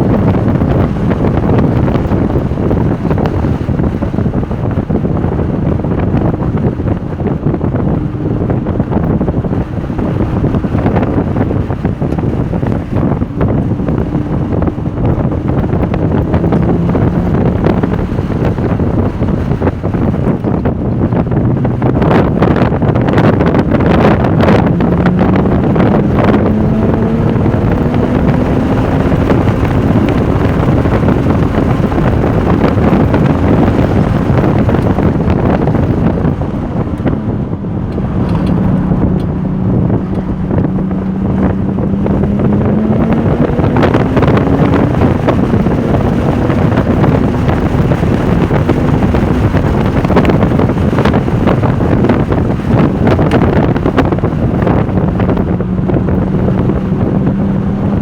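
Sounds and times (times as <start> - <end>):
race car engine accelerating: 0.0 - 58.0
wind noise on microphone: 0.0 - 58.0.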